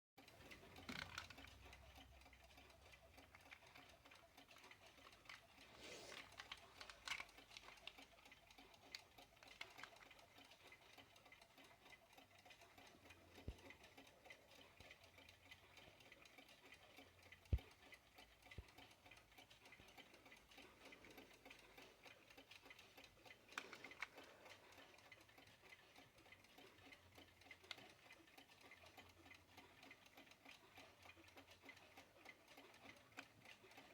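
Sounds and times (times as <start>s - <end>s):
alarm clock ticking: 0.2s - 33.9s.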